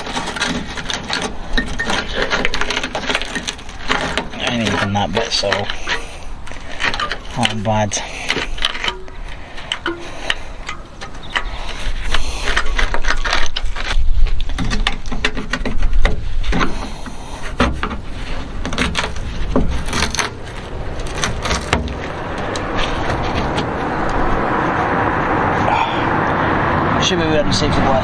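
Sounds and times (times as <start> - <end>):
blade scraping rusted metal: 0.0 - 24.8
rotten metal crunching: 0.0 - 28.0.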